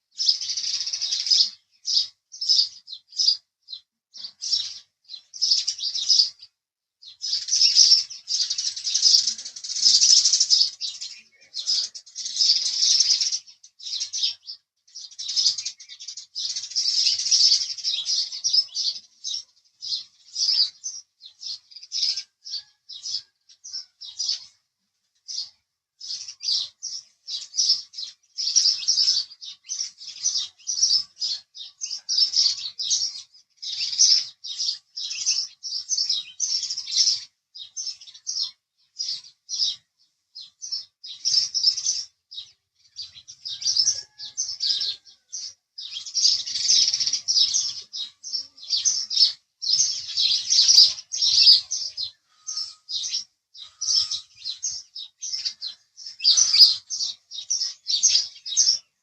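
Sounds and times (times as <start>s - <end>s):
sparrow chirping: 0.0s - 59.0s.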